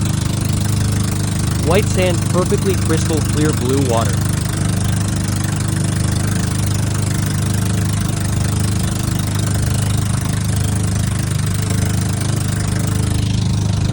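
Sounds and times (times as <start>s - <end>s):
engine running steadily: 0.0s - 13.9s.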